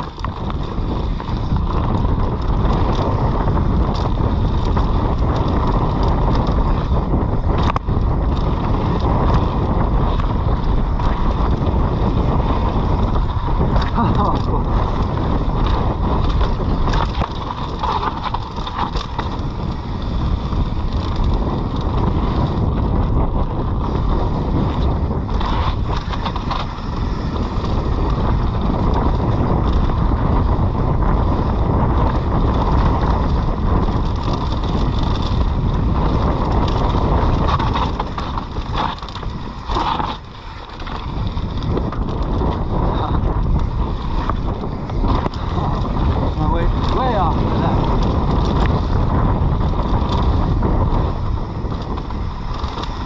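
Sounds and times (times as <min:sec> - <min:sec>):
bike trail noise: 0:00.0 - 0:53.0
wind rushing over microphone: 0:00.0 - 0:53.0.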